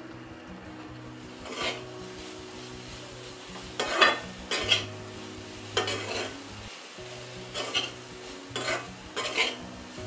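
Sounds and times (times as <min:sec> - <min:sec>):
faint background music: 0:00.0 - 0:10.0
metal spatula scraping wok: 0:01.2 - 0:10.0.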